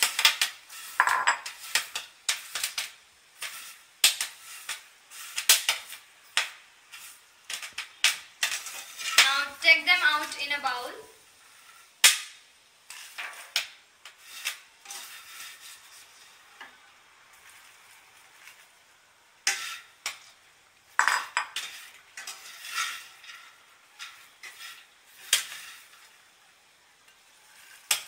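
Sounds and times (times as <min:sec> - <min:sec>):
wire skimmer scraping a wok: 0:00.0 - 0:12.0, 0:12.8 - 0:28.0
popcorn rustling into a bowl: 0:00.0 - 0:12.2, 0:12.8 - 0:28.0.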